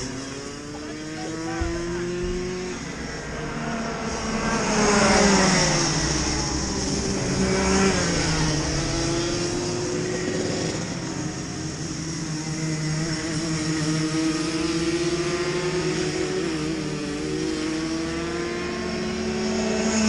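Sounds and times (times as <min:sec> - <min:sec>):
kart engines passing: 0:00.0 - 0:20.0.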